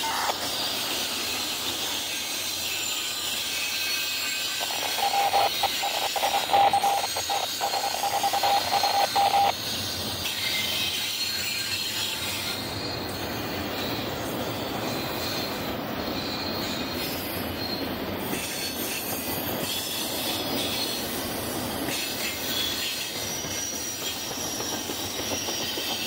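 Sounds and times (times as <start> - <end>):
high wheel squeal: 0.0 - 21.1, 21.9 - 26.0.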